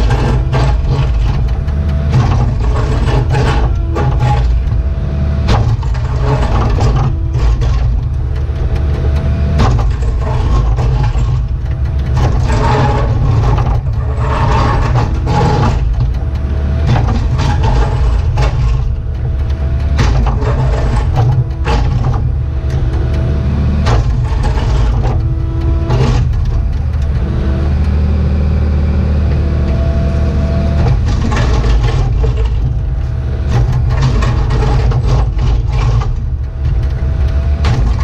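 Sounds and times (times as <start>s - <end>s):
diesel engine under load: 0.0s - 38.0s
hydraulic whine: 0.0s - 38.0s.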